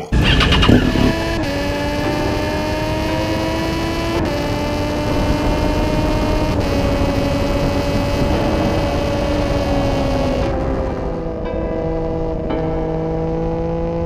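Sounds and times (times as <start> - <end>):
motorcycle engine at high revs: 0.0 - 14.0
wind rush: 0.0 - 14.0.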